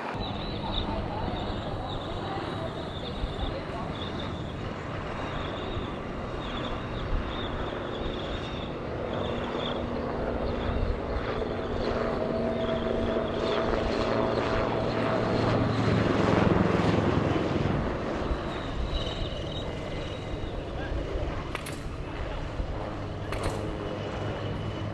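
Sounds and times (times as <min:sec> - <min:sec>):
helicopter flying past: 0:00.0 - 0:24.9.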